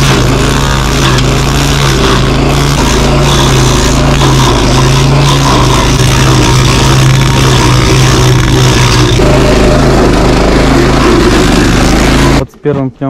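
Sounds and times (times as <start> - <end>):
cutter wheel grinding stump: 0.0 - 12.5
stump grinder engine running hard: 0.0 - 12.5.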